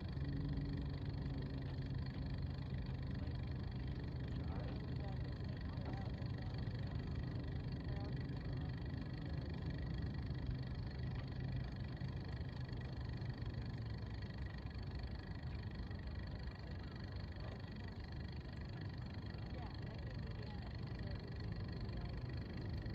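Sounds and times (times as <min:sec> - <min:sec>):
low engine hum: 0:00.0 - 0:22.9.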